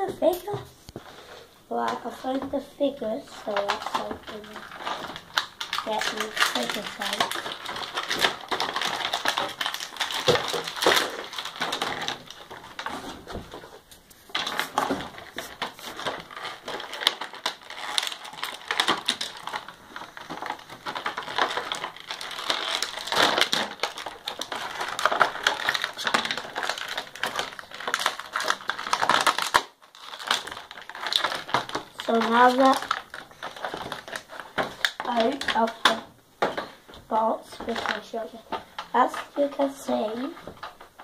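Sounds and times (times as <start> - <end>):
plastic bag crinkling: 0.0 - 41.0.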